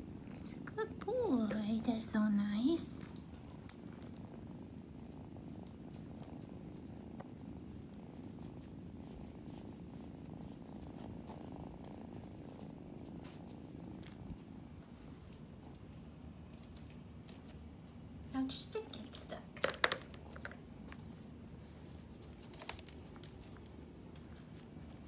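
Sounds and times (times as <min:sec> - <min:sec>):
kitten purring: 0:00.0 - 0:25.0.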